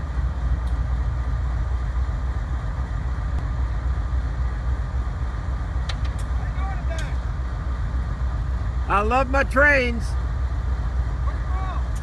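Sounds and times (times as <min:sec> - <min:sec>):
faint steady hum: 0:00.0 - 0:12.0
locomotive engine idling: 0:00.0 - 0:12.0.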